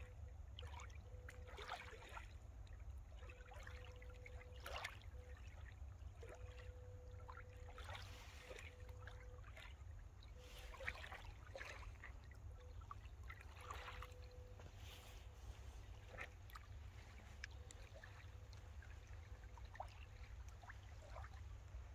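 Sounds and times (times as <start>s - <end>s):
small waves lapping on rocks: 0.0s - 21.9s.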